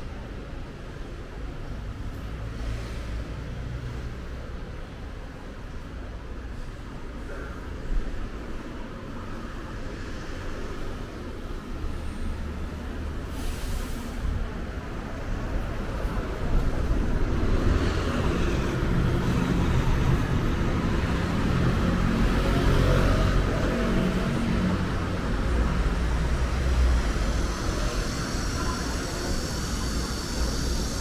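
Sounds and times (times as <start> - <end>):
bus engine rumbling: 0.0 - 31.0.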